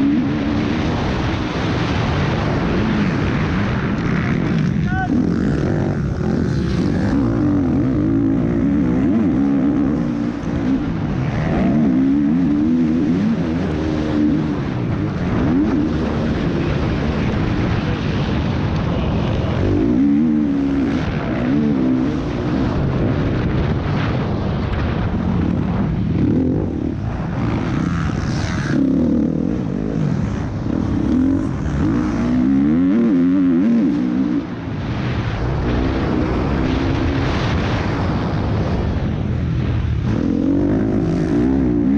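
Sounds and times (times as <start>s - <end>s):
motocross bike engine revving: 0.0s - 41.9s.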